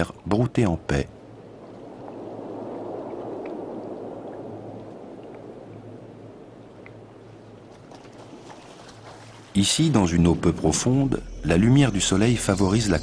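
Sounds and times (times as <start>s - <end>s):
low steady hum: 0.0s - 13.0s
muffled water rushing and gurgling: 0.0s - 13.0s.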